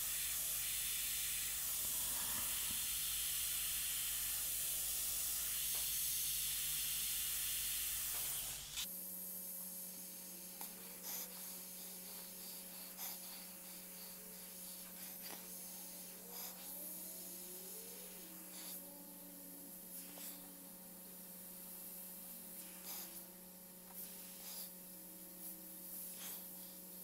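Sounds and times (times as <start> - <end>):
airbrush hissing: 0.0 - 27.0
faint steady hum: 0.0 - 27.0.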